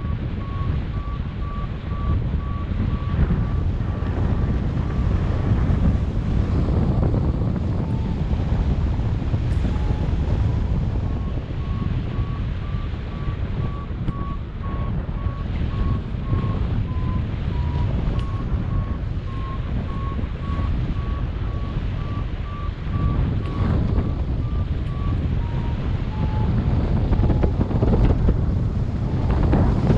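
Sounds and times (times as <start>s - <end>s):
variometer beeping: 0.0s - 3.7s, 7.7s - 28.0s
wind rushing on microphone: 0.0s - 29.9s.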